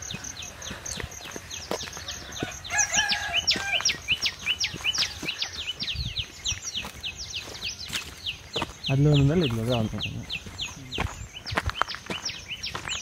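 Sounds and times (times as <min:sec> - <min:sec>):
birds whistling: 0:00.0 - 0:13.0
footsteps on dirt path: 0:00.0 - 0:13.0.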